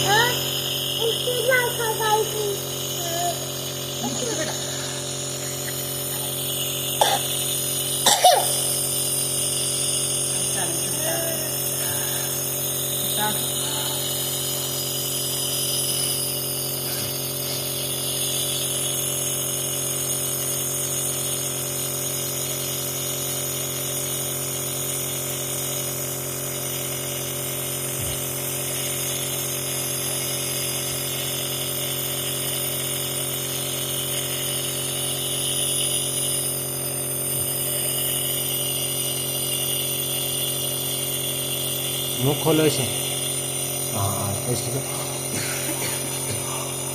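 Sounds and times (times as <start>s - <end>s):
air hissing: 0.0s - 46.9s
nebulizer electric hum: 0.0s - 46.9s.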